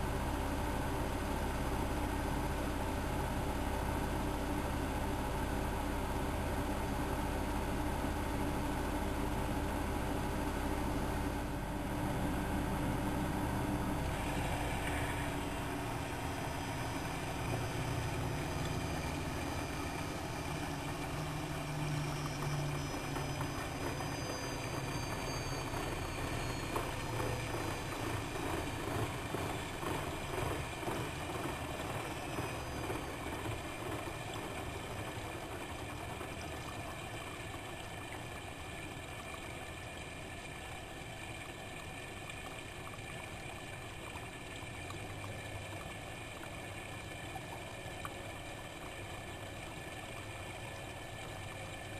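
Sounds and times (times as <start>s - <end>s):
washing machine humming: 0.0s - 51.9s.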